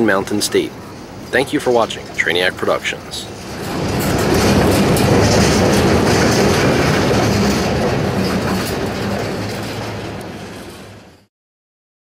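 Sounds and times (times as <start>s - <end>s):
train wheels rumbling on rails: 0.0s - 11.3s.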